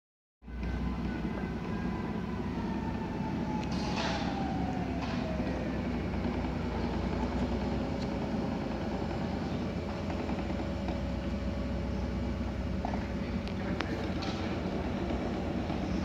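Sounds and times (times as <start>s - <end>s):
tug engine low drone: 0.4s - 16.0s
faint steady whine: 0.5s - 16.0s.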